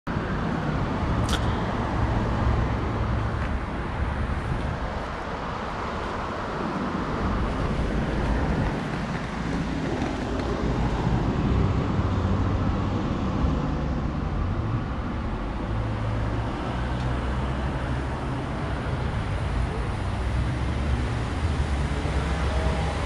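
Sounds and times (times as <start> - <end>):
cars passing on road: 0.1 - 23.0.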